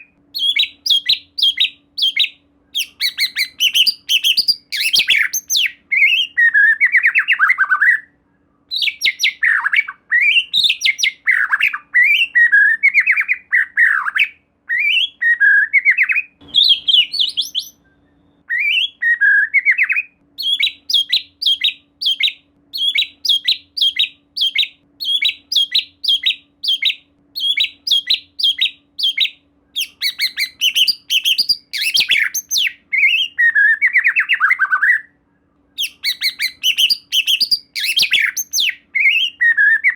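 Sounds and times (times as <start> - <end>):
bird singing whistled phrases: 0.0 - 39.9
faint steady hum: 0.0 - 39.9.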